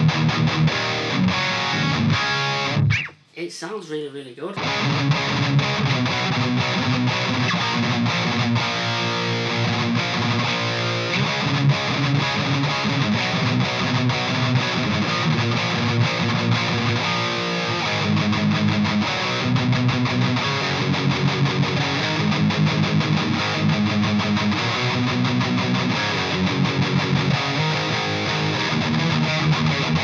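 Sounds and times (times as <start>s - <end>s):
distorted electric guitar riffing: 0.0s - 3.3s, 4.6s - 30.0s.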